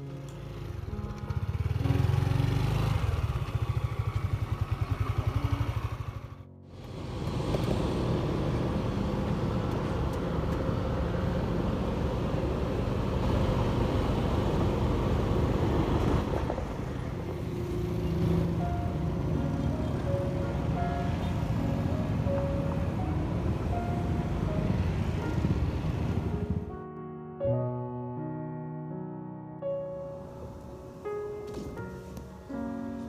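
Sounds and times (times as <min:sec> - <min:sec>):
passing traffic: 0:00.0 - 0:26.8, 0:29.8 - 0:33.0.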